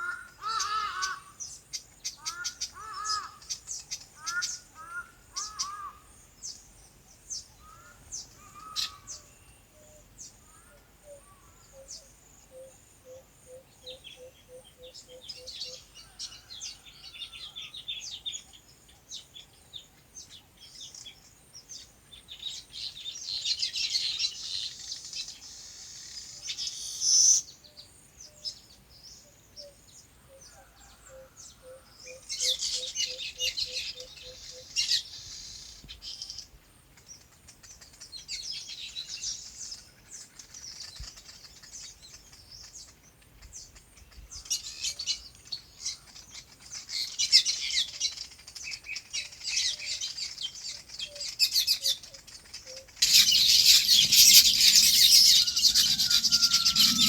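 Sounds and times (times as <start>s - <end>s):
small birds chirping: 0.0s - 30.6s, 31.3s - 57.0s.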